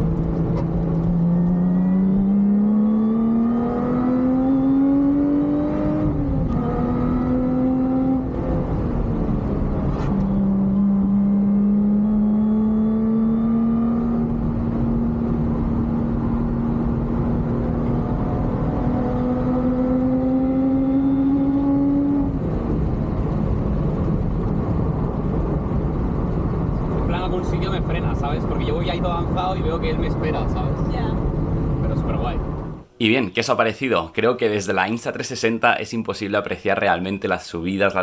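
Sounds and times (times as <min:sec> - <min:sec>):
car engine at full throttle: 0:00.0 - 0:32.9
road and wind roar: 0:00.0 - 0:33.0.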